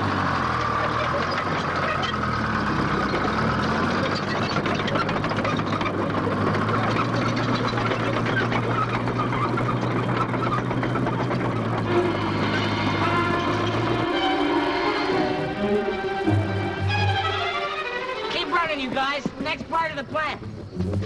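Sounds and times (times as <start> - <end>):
bulldozer engine clattering: 0.0 - 21.0.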